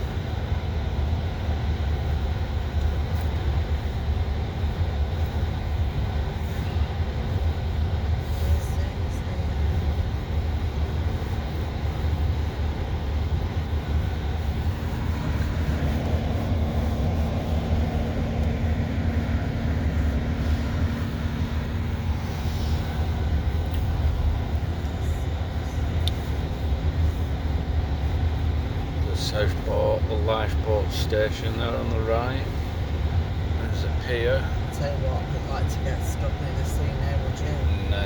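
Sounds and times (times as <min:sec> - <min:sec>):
vehicle cabin rumble: 0:00.0 - 0:38.0.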